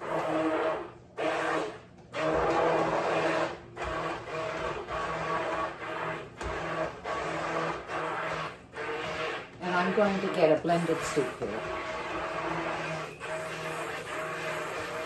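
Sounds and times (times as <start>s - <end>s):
immersion blender motor pulsing: 0.0s - 15.0s.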